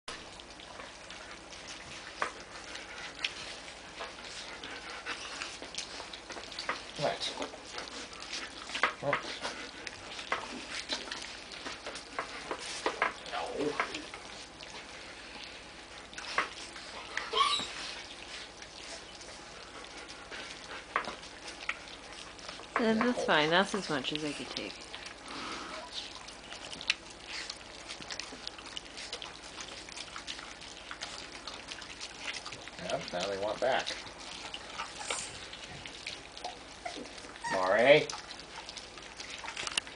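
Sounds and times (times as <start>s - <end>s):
puppies smacking and lapping food: 0.1s - 39.9s.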